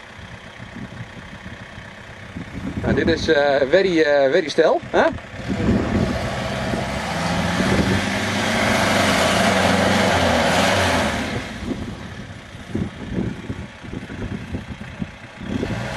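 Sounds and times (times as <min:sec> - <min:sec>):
off-road vehicle engine revving: 0:02.3 - 0:15.9.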